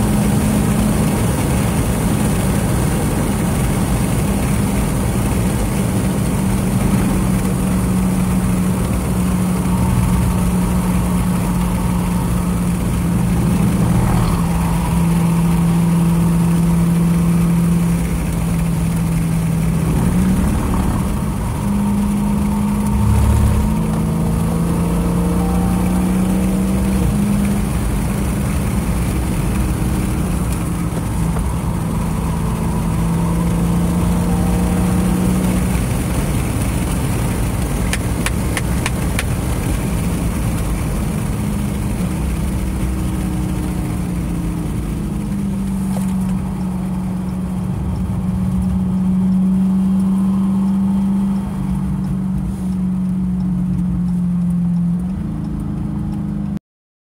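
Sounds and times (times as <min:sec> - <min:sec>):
car engine under load: 0:00.0 - 0:56.6.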